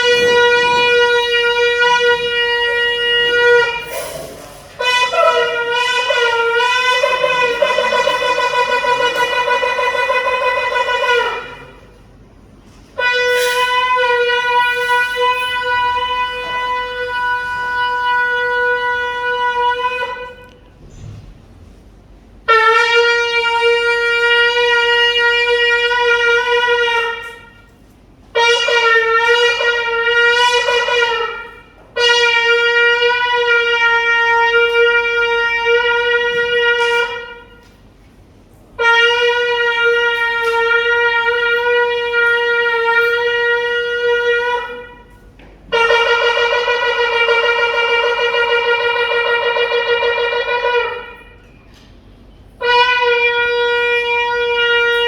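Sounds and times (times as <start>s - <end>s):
shofar blasts: 0.0s - 55.0s.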